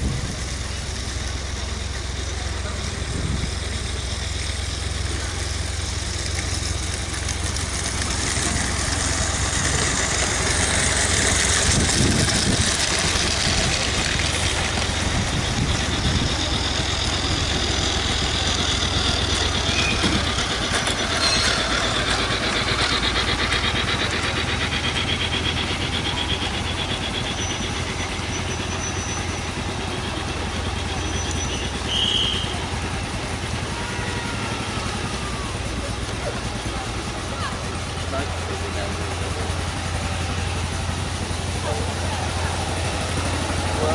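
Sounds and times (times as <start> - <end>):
model locomotive hissing: 0.0 - 43.9
outdoor background noise: 0.0 - 43.9.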